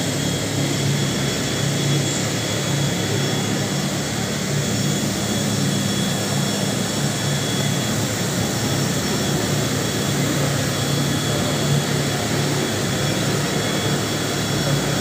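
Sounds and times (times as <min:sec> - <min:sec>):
loud mechanical drone with hiss: 0:00.0 - 0:15.0.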